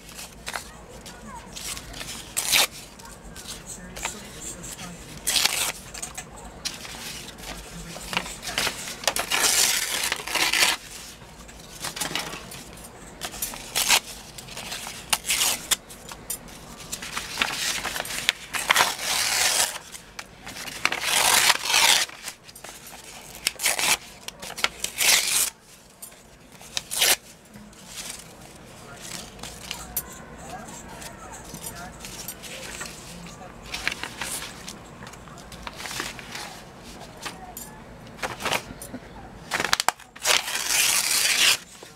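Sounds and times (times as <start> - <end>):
paper tearing and rustling: 0.0 - 15.8, 16.5 - 37.5, 38.2 - 38.7, 39.5 - 41.9.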